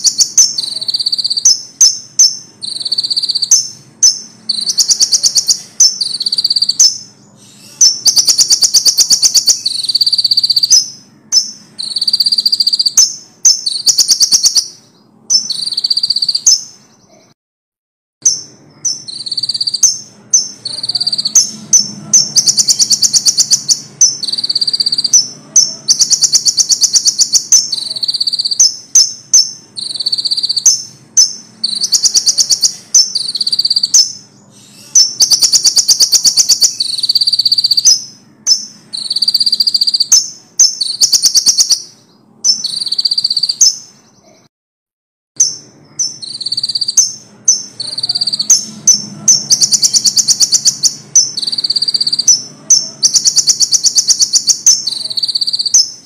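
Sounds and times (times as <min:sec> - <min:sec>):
songbird trilling and chipping: 0:00.0 - 0:16.8, 0:18.2 - 0:43.9, 0:45.4 - 0:56.0.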